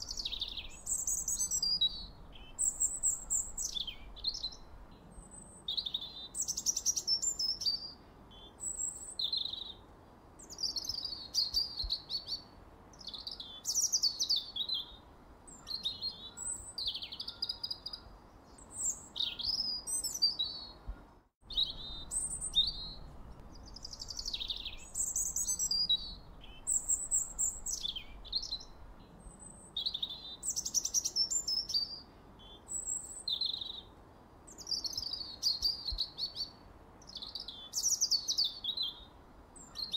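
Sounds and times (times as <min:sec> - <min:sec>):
faint steady hiss: 0:00.0 - 0:39.9
songbird singing with trills: 0:00.0 - 0:39.9.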